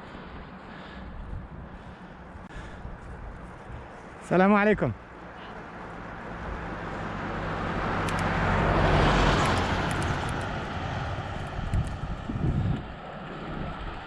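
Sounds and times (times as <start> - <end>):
tyre noise on road: 0.0 - 14.0
vehicle engine hum: 0.0 - 14.0.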